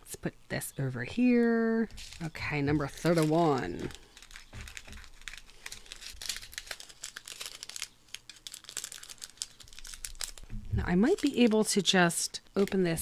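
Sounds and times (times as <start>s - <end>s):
plastic bag crinkling: 1.2s - 13.0s.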